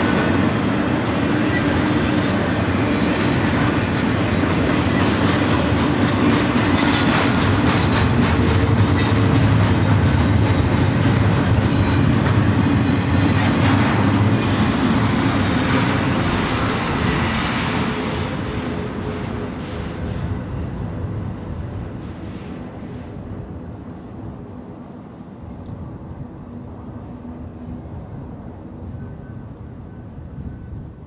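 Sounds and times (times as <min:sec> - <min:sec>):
freight train rolling on rails: 0:00.0 - 0:31.0.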